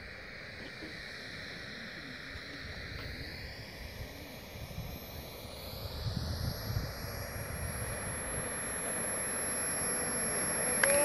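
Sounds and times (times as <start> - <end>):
jet turbine whine: 0.0 - 11.0.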